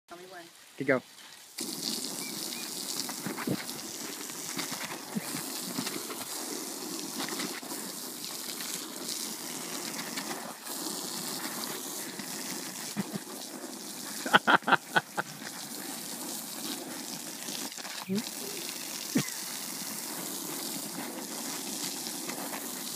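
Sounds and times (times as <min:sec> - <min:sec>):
hose spraying water on grass: 0:00.1 - 0:22.9.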